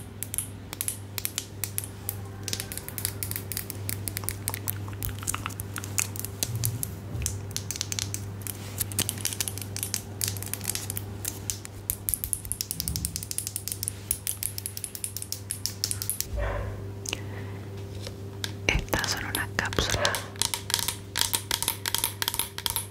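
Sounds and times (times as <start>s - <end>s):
crisp clicks and taps: 0.0s - 16.3s, 18.0s - 22.9s.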